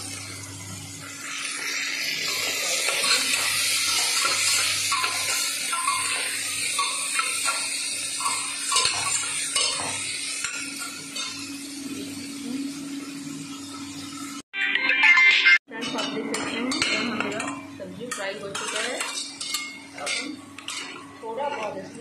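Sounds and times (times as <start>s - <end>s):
vegetables sizzling in oil: 0.0s - 14.4s, 15.7s - 22.0s.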